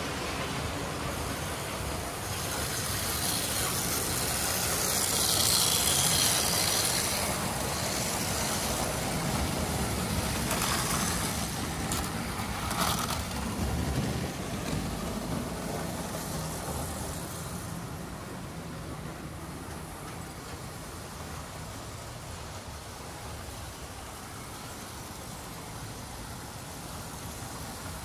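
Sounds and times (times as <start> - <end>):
model train wheels on metal track: 0.0 - 28.0.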